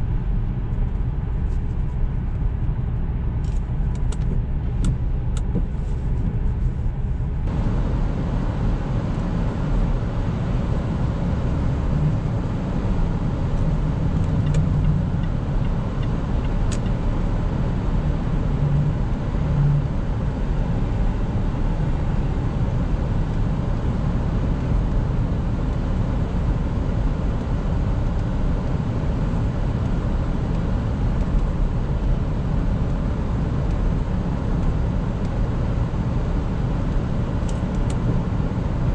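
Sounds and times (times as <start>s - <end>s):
car engine drone: 0.0s - 38.9s
tyre and road noise: 0.1s - 38.9s.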